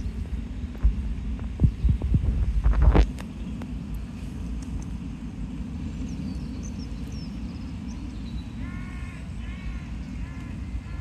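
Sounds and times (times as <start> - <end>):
low gusty outdoor rumble: 0.0 - 11.0.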